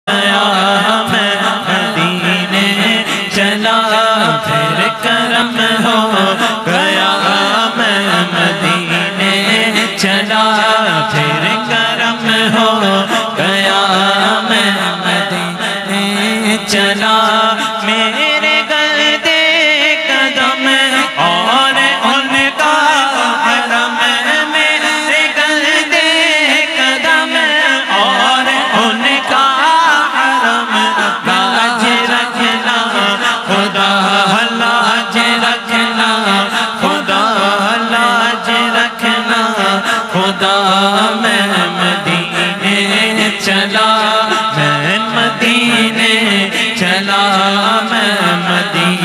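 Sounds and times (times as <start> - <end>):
man singing into a microphone: 0.0 - 49.0.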